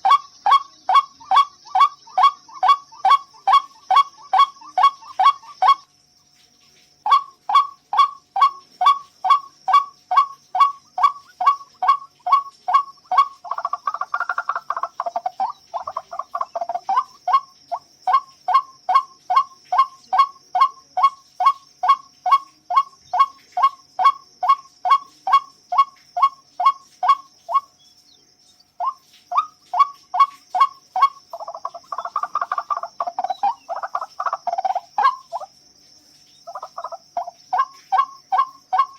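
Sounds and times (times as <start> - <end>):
waterhen croaking calls: 0.0 - 6.0, 6.6 - 27.9, 28.7 - 35.6, 36.3 - 38.9
faint high hiss: 0.0 - 38.9.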